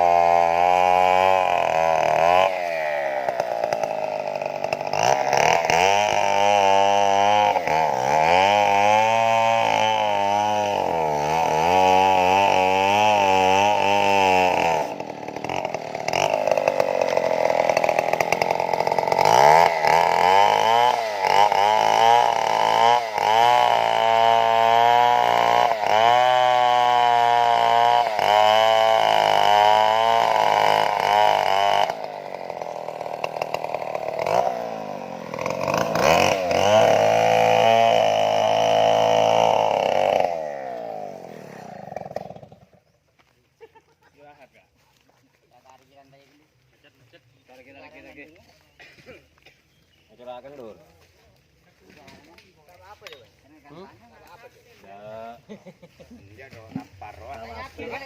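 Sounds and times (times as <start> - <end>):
chainsaw cutting wood: 0.0 - 43.4, 47.6 - 58.0.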